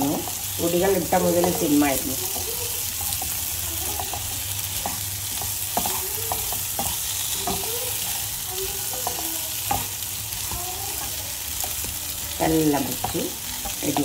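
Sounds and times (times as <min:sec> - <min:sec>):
potatoes sizzling in oil: 0:00.0 - 0:14.0
spatula scraping and knocking pan: 0:00.0 - 0:14.0.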